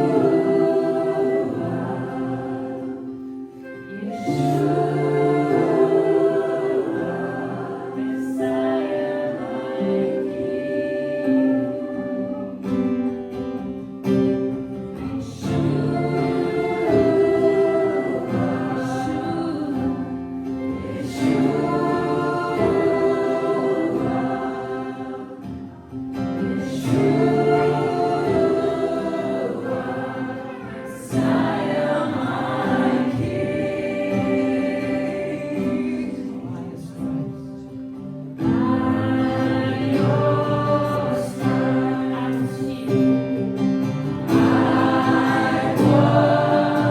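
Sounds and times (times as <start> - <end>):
group singing slow song: 0.0 - 46.9
guitar: 0.0 - 46.9.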